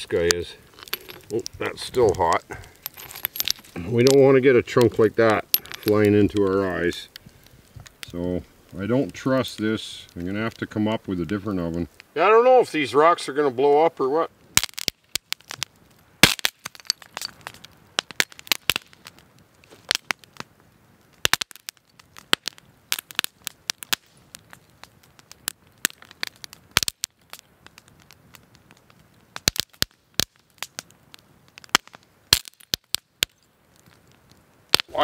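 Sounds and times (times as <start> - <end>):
heated rocks bursting: 0.0 - 35.0
wood fire crackling and popping: 0.0 - 35.0.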